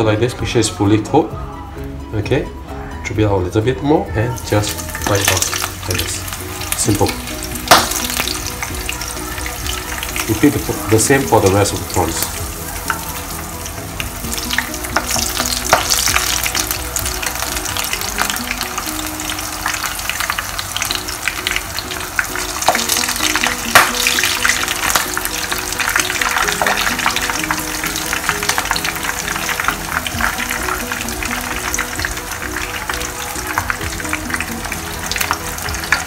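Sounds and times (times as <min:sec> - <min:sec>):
prawns deep-frying in oil: 0:04.3 - 0:36.0.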